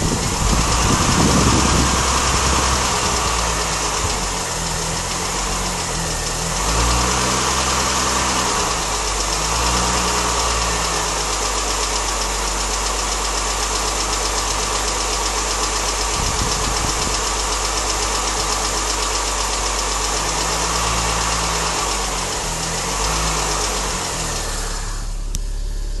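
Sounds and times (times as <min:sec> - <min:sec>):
car engine idling: 0:00.0 - 0:26.0
fast engine ticking: 0:00.0 - 0:26.0.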